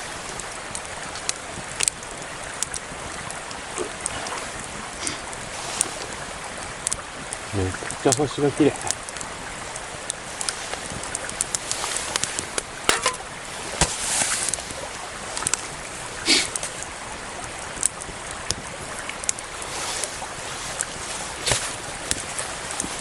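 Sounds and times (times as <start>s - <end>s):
campfire crackling and popping: 0.0s - 23.0s
flowing water rushing: 0.0s - 23.0s.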